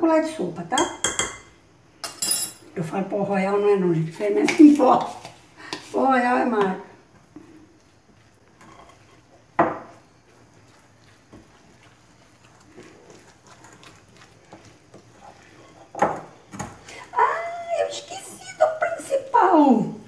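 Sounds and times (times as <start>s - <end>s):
batter mixed in a glass bowl: 3.0s - 20.0s.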